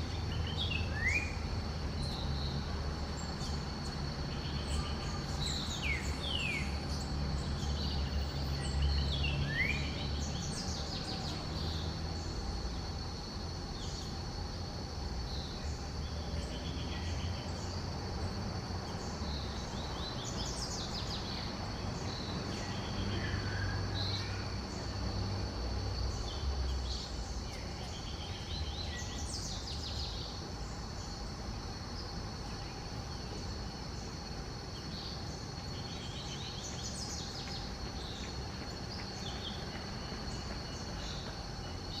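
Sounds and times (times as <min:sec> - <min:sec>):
high insect drone: 0:00.0 - 0:42.0.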